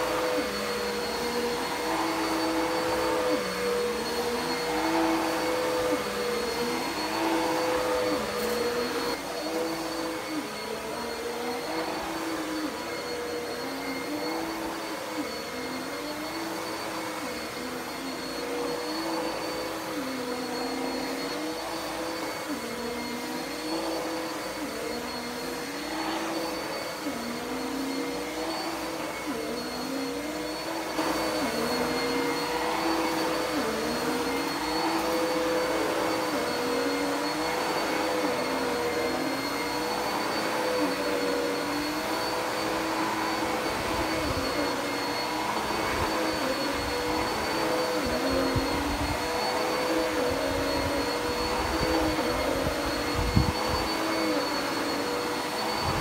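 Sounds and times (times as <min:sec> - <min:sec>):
vacuum cleaner running over carpet: 0:00.0 - 0:56.0.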